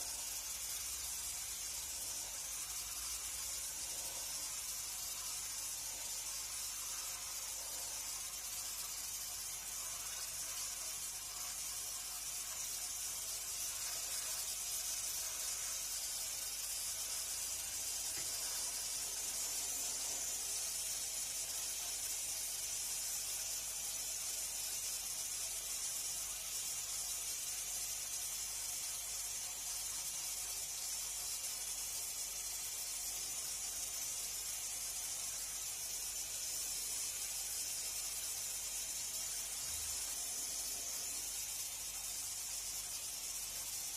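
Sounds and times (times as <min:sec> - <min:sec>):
high-pitched hiss: 0:00.0 - 0:43.9.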